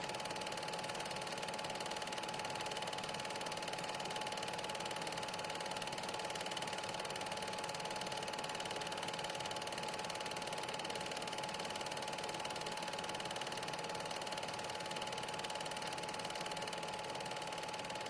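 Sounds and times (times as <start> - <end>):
film projector clattering: 0.0 - 18.0.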